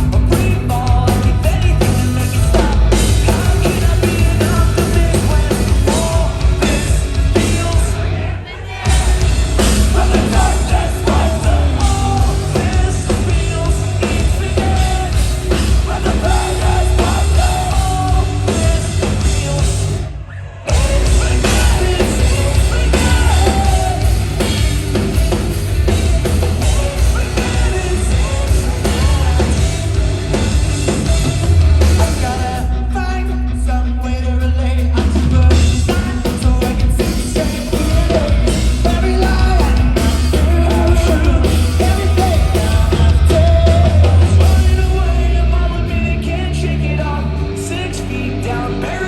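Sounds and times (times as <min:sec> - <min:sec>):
distorted guitars: 0:00.0 - 0:49.0
heavy drums and bass: 0:00.0 - 0:49.0.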